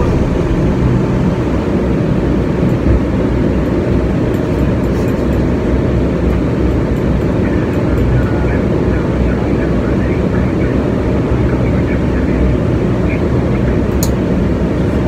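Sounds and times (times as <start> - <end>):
aircraft cockpit rumble: 0.0 - 15.0.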